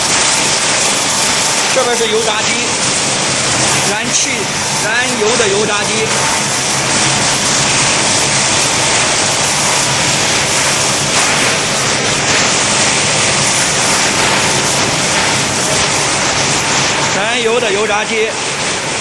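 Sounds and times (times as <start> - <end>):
low machine hum: 0.0 - 19.0
production line rushing noise: 0.0 - 19.0.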